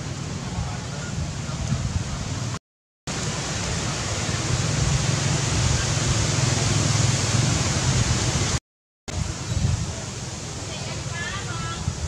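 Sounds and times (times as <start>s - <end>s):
steady hiss-like noise: 0.0s - 12.0s.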